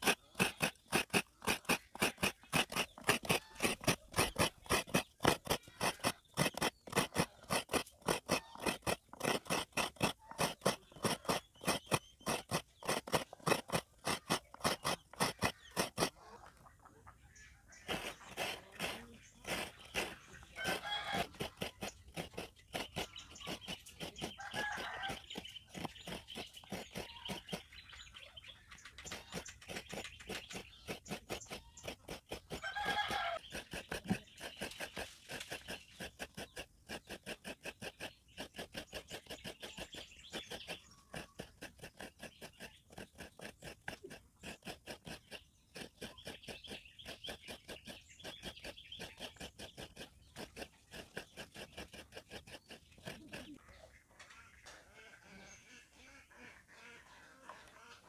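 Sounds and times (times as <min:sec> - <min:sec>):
coconut scraping strokes: 0:00.0 - 0:16.6, 0:17.7 - 0:53.9
birds chirping: 0:00.0 - 0:58.0
hen clucking: 0:00.0 - 0:58.0.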